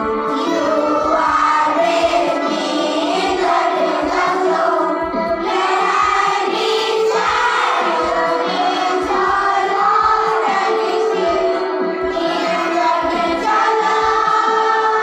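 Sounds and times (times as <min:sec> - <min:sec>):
children singing in unison: 0:00.0 - 0:15.0
musical accompaniment: 0:00.0 - 0:15.0.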